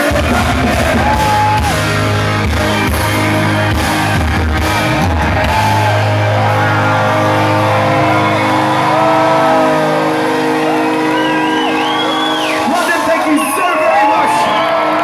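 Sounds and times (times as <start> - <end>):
steady held chords: 0.0 - 15.0
gliding melody: 1.7 - 15.0.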